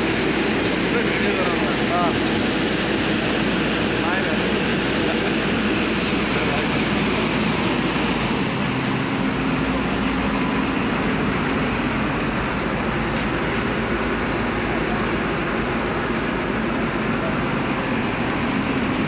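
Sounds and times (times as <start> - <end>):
heavy machinery engine drone: 0.0 - 19.0.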